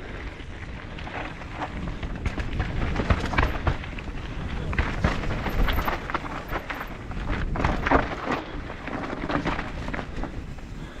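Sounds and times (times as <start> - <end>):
tyres rumbling over dirt and stones: 0.0 - 11.0
wind rumble on microphone: 0.0 - 11.0
bike knocks and rattles: 1.0 - 11.0.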